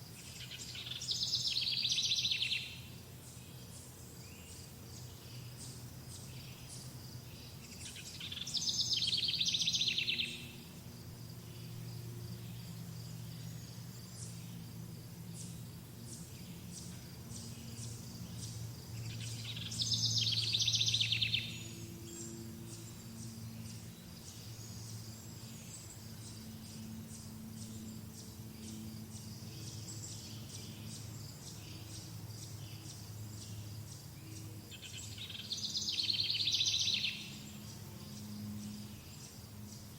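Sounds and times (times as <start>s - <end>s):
insects chirring: 0.0s - 39.9s
songbird trilling: 0.2s - 10.6s, 16.1s - 37.8s.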